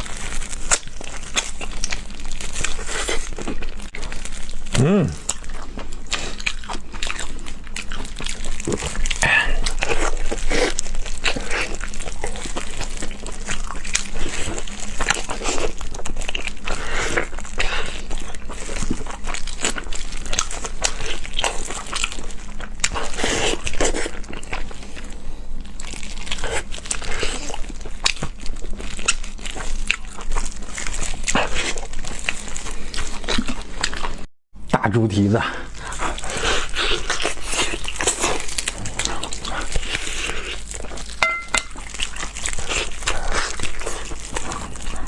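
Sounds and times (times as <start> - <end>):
person chewing and gnawing: 0.0 - 34.3, 35.6 - 45.0.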